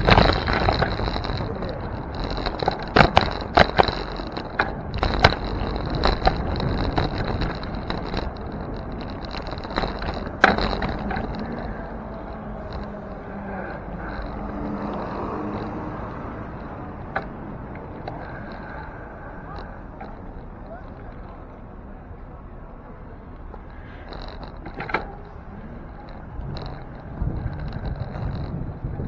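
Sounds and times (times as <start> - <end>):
bike knocks and rattles: 0.0 - 21.7, 23.4 - 29.0
wind on camera: 0.0 - 21.9, 23.2 - 29.0
road noise: 0.0 - 29.0.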